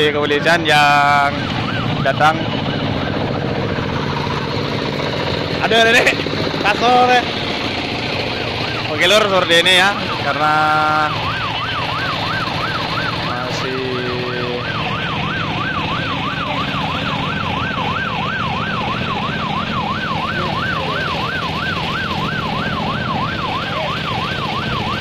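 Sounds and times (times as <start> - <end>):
police siren yelping: 0.0 - 25.0.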